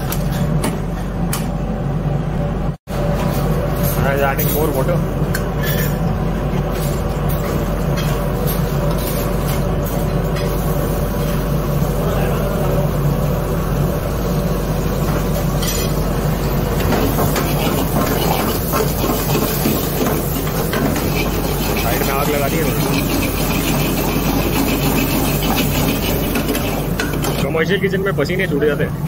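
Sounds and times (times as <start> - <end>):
extraction fans running: 0.0 - 29.0
gas burners roaring: 0.0 - 29.0.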